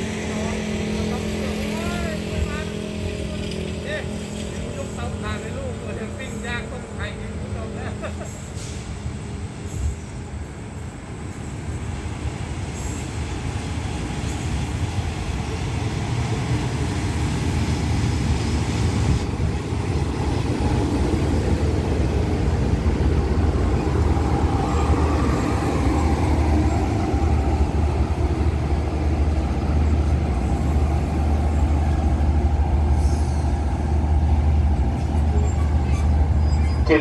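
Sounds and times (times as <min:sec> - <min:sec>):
diesel train engine drone: 0:00.0 - 0:37.0.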